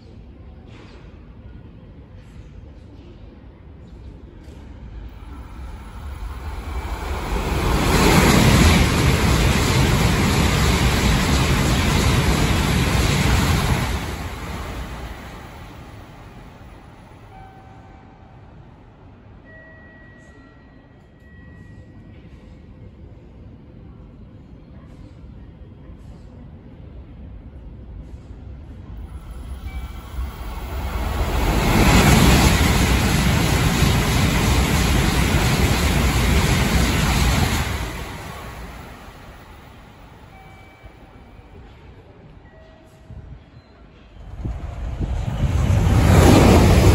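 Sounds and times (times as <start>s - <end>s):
bullet train passing at speed: 0.6s - 24.4s, 26.4s - 46.9s.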